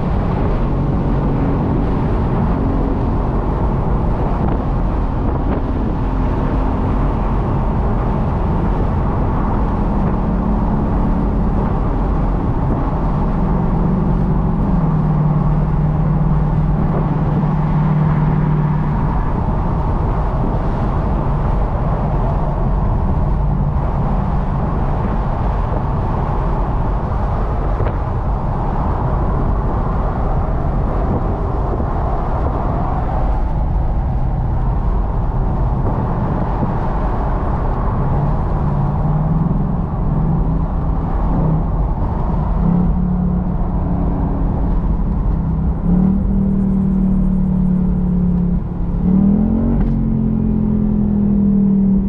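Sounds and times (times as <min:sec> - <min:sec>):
car engine: 0:00.0 - 0:52.0
engine downshifting and revving: 0:00.0 - 0:52.0
road noise: 0:00.0 - 0:52.0
wind noise: 0:00.0 - 0:52.0.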